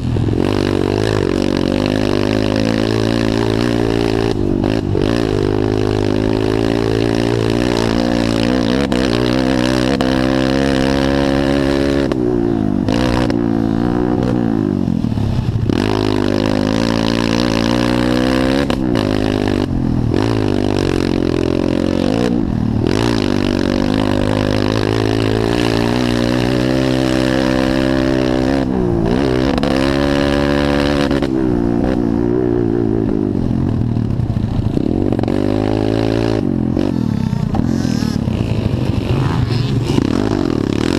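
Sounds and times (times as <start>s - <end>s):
pit bike engines revving: 0.0s - 40.9s.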